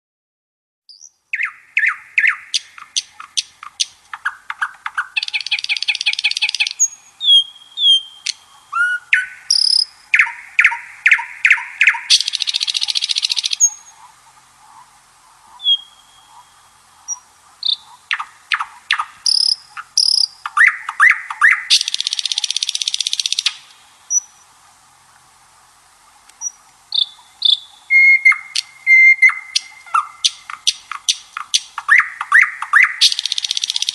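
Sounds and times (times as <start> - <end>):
buzzy bird trills: 0.9 - 24.5, 26.4 - 33.9
songbirds chirping: 0.9 - 33.9.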